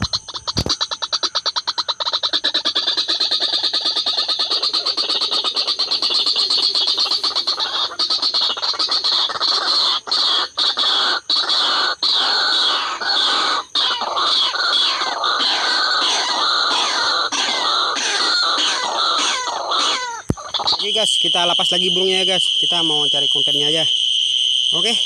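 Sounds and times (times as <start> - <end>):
waterhens calling harshly: 0.0 - 23.9.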